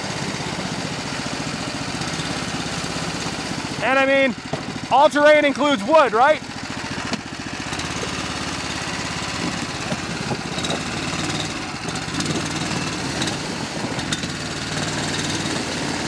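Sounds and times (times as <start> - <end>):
snow sled engine running: 0.0 - 16.0.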